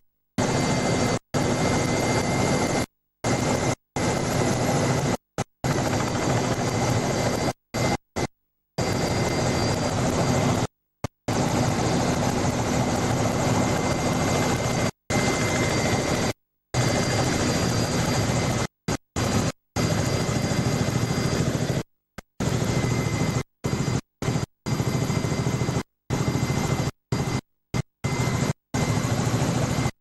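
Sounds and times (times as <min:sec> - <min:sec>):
helicopter rotor and turbine roar: 0:00.4 - 0:30.0.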